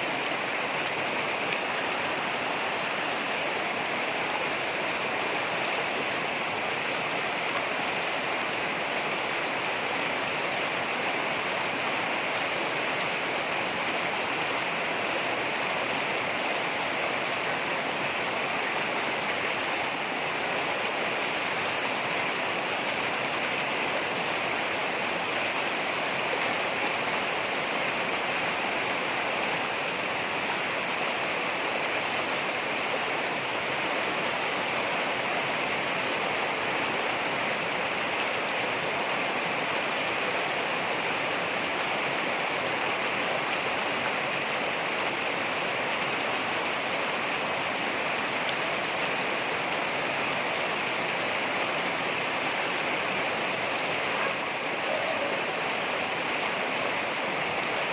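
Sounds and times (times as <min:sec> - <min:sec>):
water rushing over rocks: 0:00.0 - 0:57.9.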